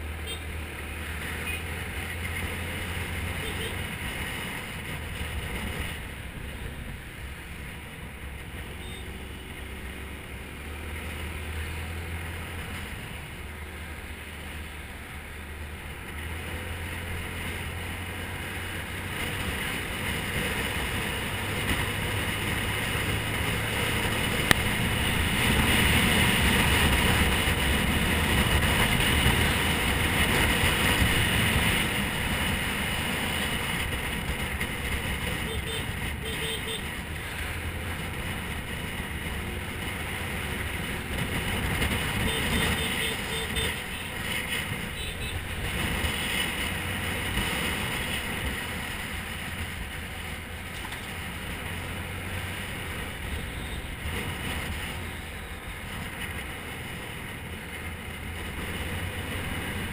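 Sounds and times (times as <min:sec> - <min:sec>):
road noise: 0:00.0 - 0:59.9.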